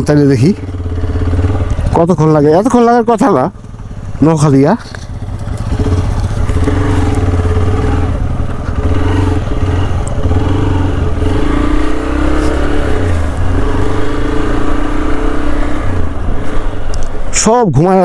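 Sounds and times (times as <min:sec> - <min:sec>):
motorcycle engine running: 0:00.0 - 0:16.8
road noise rush: 0:00.0 - 0:18.0.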